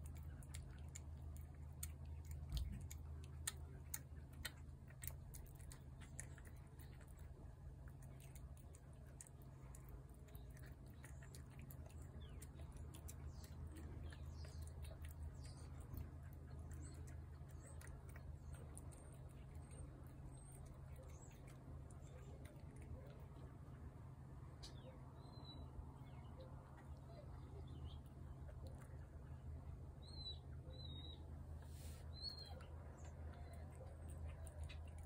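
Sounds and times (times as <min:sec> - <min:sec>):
cat chewing food: 0:00.0 - 0:35.0
low steady hum: 0:00.0 - 0:35.0.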